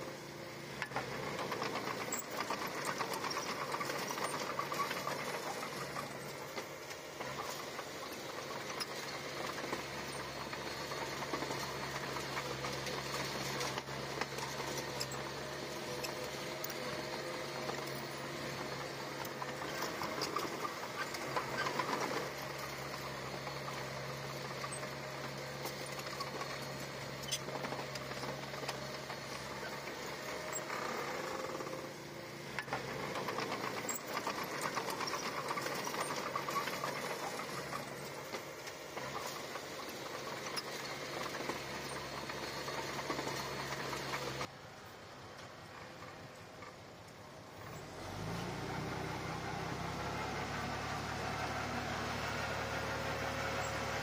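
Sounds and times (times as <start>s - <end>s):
bulldozer diesel engine running: 0.0s - 54.0s
fast mechanical rattle: 0.8s - 44.5s.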